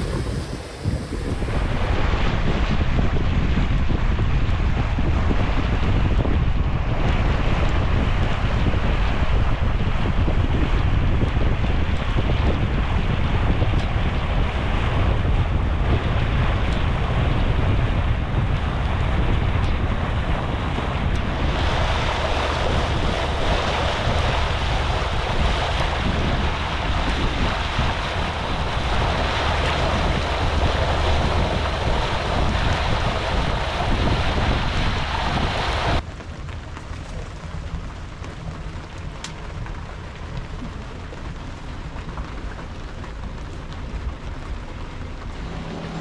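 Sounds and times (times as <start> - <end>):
steady low rumble: 0.0 - 46.0
water rushing along boat hull: 0.0 - 46.0
wind buffeting microphone: 0.0 - 46.0.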